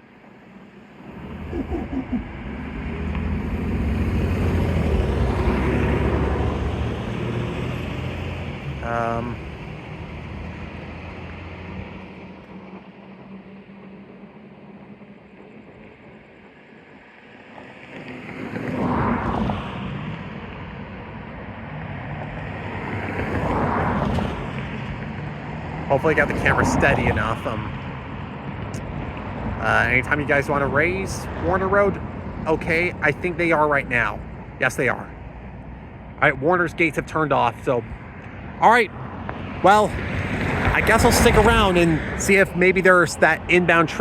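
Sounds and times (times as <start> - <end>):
road traffic rumble: 0.0 - 44.0
vehicles passing close: 0.0 - 44.0.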